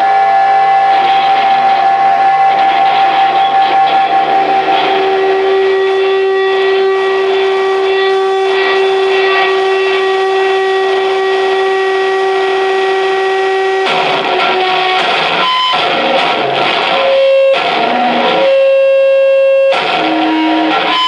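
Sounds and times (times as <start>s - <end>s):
electronic held tone: 0.0s - 21.0s
harsh electronic noise wash: 0.0s - 21.0s.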